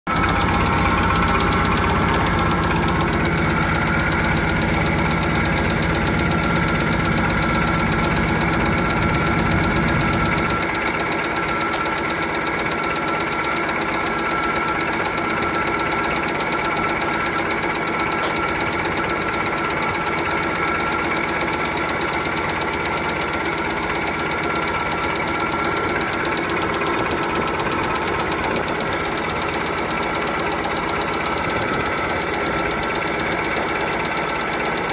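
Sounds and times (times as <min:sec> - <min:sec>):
boat engine idling: 0:00.1 - 0:34.9.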